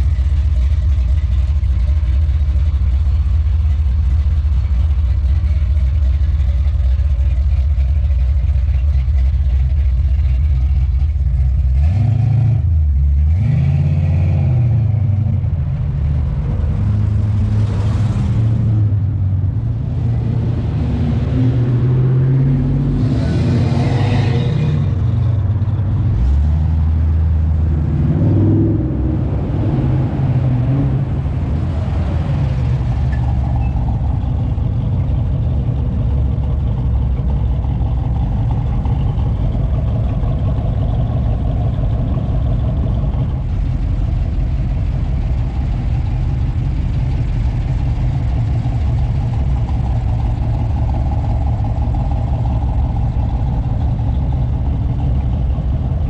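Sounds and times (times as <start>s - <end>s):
car engines rumbling: 0.0s - 56.0s
car engine revving: 9.7s - 56.0s.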